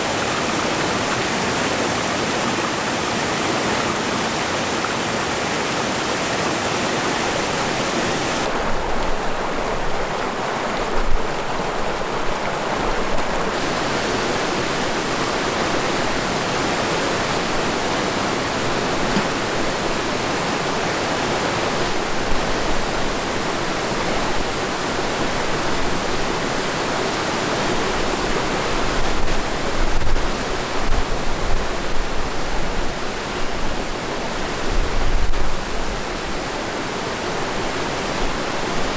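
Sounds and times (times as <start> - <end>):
river water rushing: 0.0 - 34.8.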